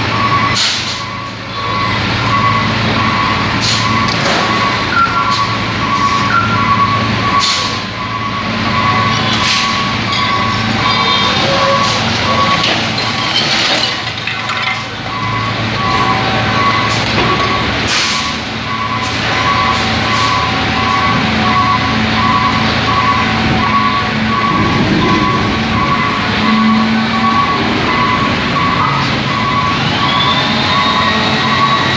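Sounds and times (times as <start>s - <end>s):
heavy vehicle engines running: 0.0s - 31.9s
back-up alarm beeping: 0.1s - 13.4s, 15.1s - 31.9s.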